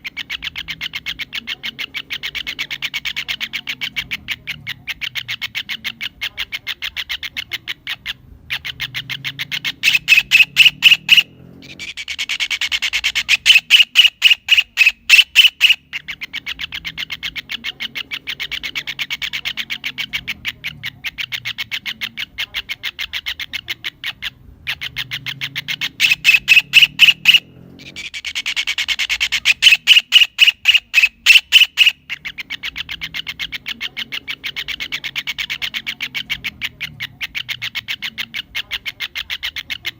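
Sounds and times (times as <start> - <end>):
kingfisher calling: 0.0 - 39.9.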